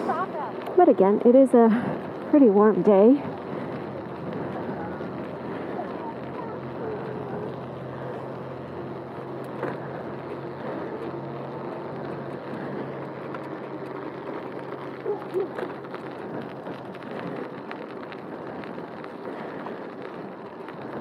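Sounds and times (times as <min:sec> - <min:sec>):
bicycle rolling: 0:00.0 - 0:21.0
wind noise: 0:00.0 - 0:21.0.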